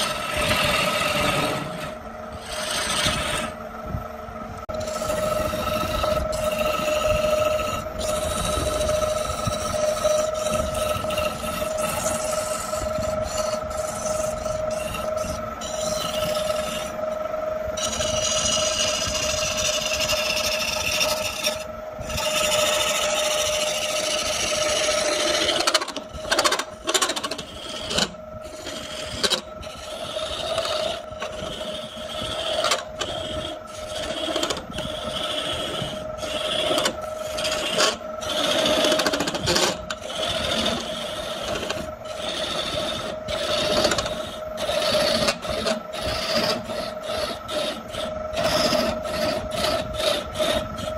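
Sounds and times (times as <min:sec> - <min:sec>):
wood scraping on lathe: 0:00.0 - 0:03.6, 0:04.6 - 0:50.9
wood lathe motor whine: 0:00.0 - 0:50.9.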